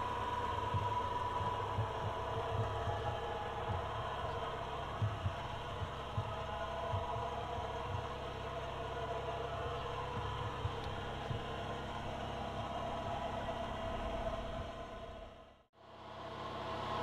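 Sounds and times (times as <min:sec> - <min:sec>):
forklift engine idling: 0:00.0 - 0:15.2.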